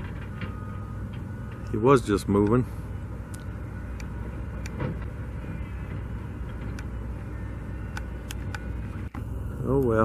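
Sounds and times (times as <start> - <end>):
low rumble of vehicle engines: 0.0 - 10.0.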